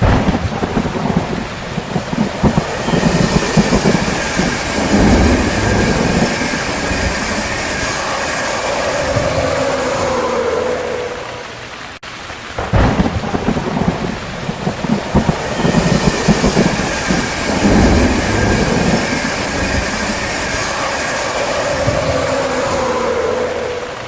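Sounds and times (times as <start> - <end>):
rain falling: 0.0 - 24.0
thunder rumbling and cracking: 0.0 - 24.0.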